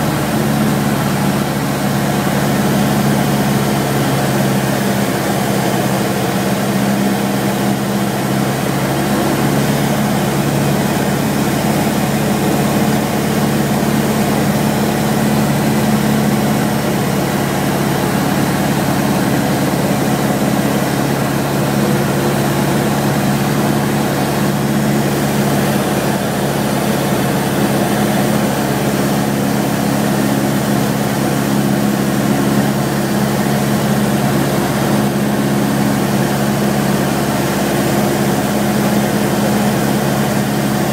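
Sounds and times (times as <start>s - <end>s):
aircraft engine drone in cabin: 0.0s - 40.9s.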